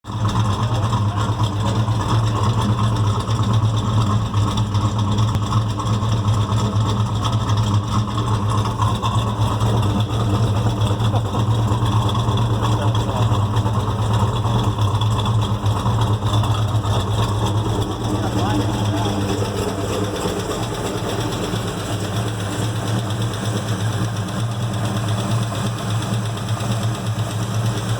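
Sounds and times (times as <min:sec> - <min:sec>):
car engine idling: 0:00.0 - 0:27.9
valvetrain ticking: 0:00.1 - 0:27.9.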